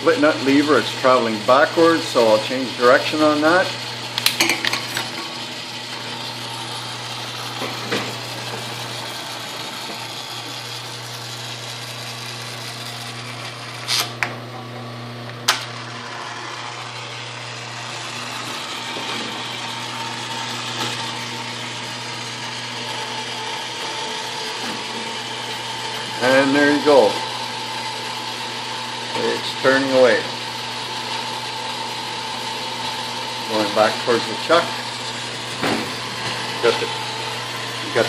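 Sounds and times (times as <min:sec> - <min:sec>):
lathe gear noise: 0:00.0 - 0:14.3, 0:15.2 - 0:38.0
motor hum: 0:00.0 - 0:38.0.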